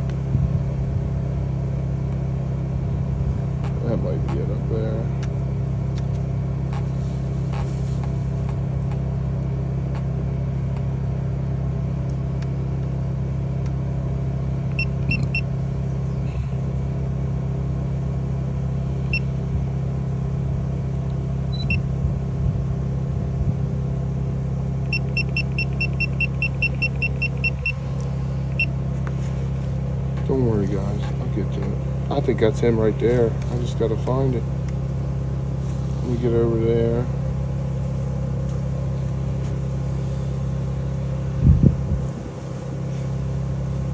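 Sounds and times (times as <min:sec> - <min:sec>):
low engine hum: 0:00.0 - 0:43.9.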